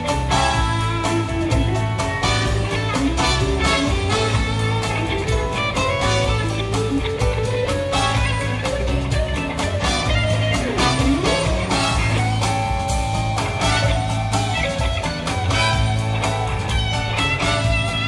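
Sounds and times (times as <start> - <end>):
blues-rock music with guitar: 0.0 - 18.0.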